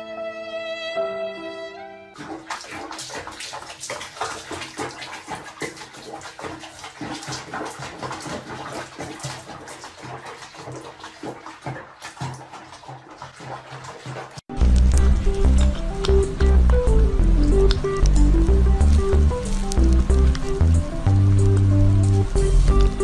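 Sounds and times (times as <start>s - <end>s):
water splashing in basin: 2.1s - 23.0s.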